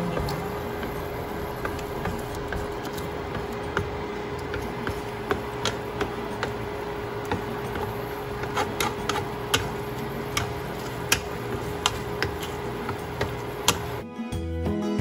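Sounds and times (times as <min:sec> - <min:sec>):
spatula stirring thick sauce: 0:00.1 - 0:14.0.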